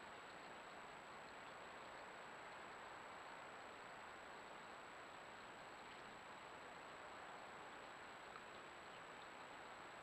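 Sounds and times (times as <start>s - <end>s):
faint camera hiss: 0.0s - 10.0s.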